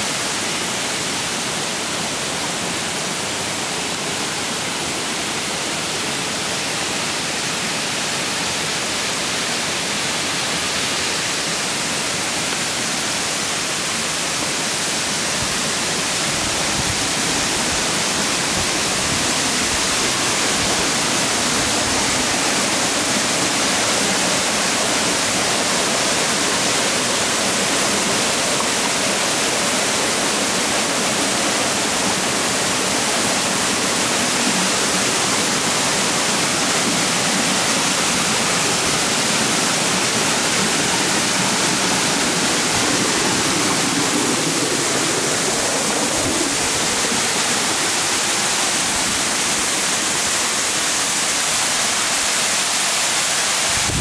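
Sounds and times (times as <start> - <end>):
waterfall splashing onto boulders: 0.0 - 54.0.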